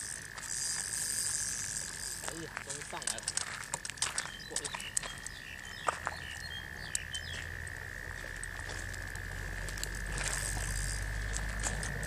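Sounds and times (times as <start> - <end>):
steady high whine: 0.0 - 12.0.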